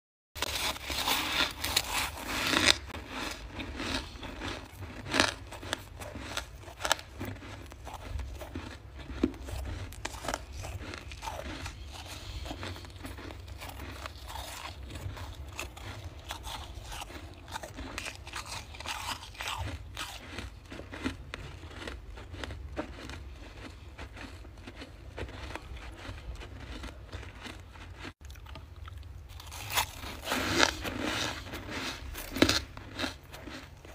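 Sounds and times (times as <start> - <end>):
frost crunching when chewed: 0.4 - 33.9.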